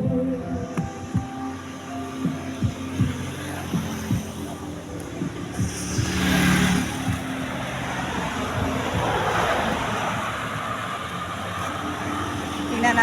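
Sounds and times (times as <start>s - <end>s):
vehicle passing on road: 1.4s - 13.0s.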